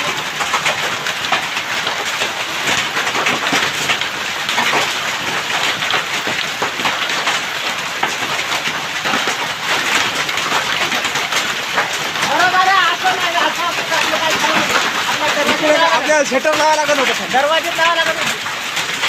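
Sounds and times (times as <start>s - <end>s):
hail clattering: 0.0s - 19.0s
rain rushing: 0.0s - 19.0s.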